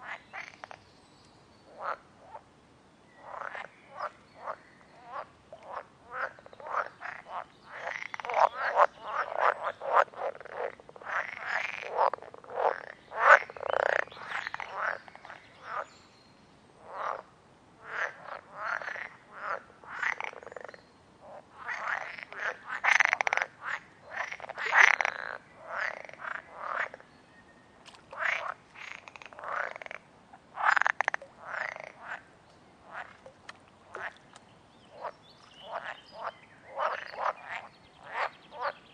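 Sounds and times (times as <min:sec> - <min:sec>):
frogs croaking: 0:00.0 - 0:00.8, 0:01.6 - 0:02.4, 0:03.2 - 0:16.0, 0:16.8 - 0:27.2, 0:28.0 - 0:38.9.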